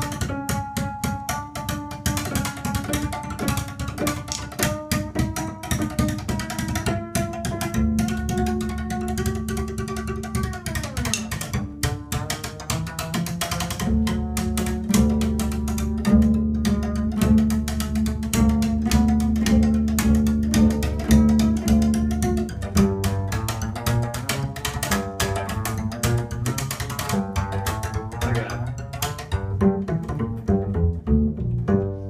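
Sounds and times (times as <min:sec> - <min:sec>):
drumsticks beating double bass strings: 0:00.0 - 0:32.0.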